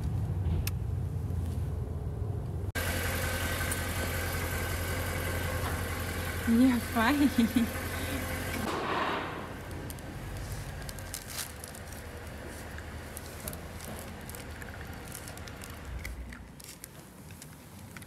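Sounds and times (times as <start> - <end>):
car engine humming: 0.0 - 17.8.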